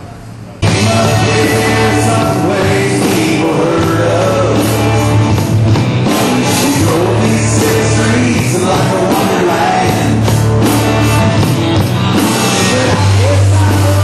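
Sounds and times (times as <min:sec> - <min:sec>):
country-rock band with male vocal: 0:00.6 - 0:14.0.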